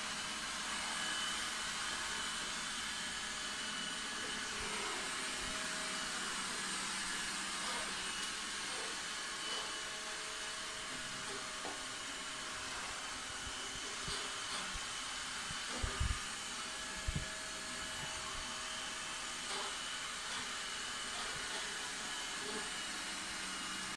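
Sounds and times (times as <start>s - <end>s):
robot vacuum whirring: 0.6s - 23.9s.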